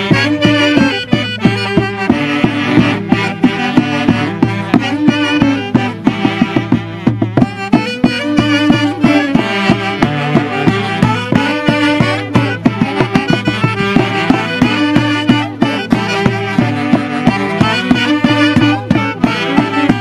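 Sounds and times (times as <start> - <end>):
saxophone melody: 0.0 - 20.0
steady drum beat: 0.0 - 20.0.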